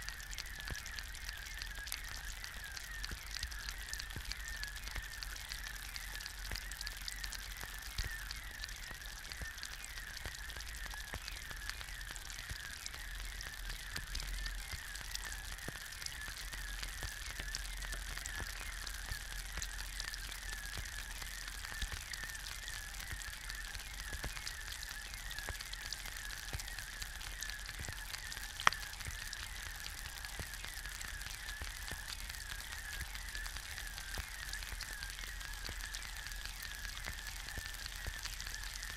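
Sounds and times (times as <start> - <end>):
egg sizzling in a pan: 0.0 - 38.9.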